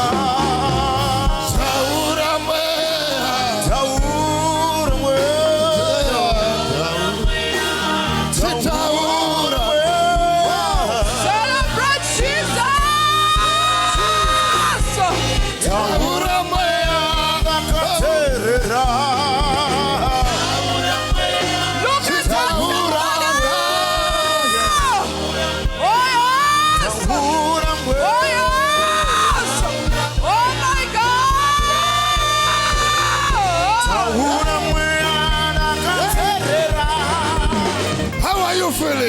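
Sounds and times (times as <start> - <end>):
drums and bass beat: 0.0 - 39.0
voices singing with vibrato: 0.0 - 39.0.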